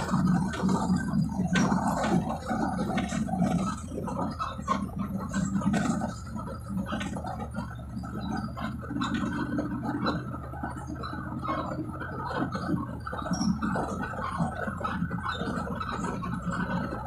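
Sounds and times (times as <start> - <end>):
bus engine droning: 0.0 - 17.0
small clicks and rattles: 0.0 - 17.0.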